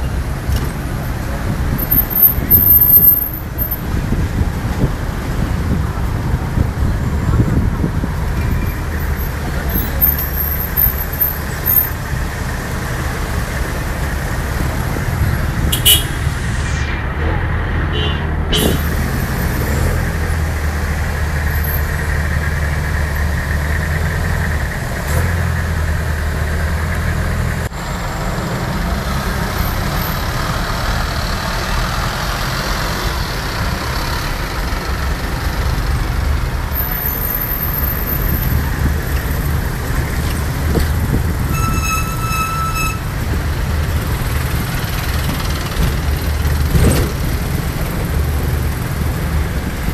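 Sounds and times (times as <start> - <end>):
traffic noise: 0.0 - 49.9
vehicle engine drone: 0.0 - 49.9.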